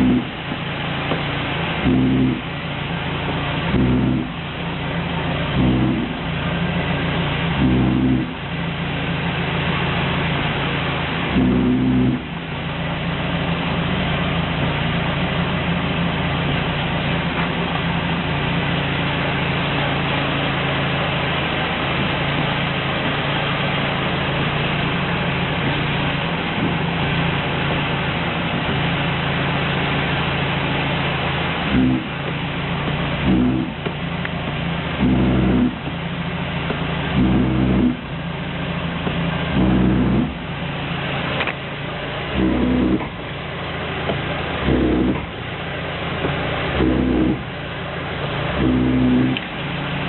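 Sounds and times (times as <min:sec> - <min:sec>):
road and engine noise: 0:00.0 - 0:50.0
steering rack humming: 0:00.0 - 0:50.0.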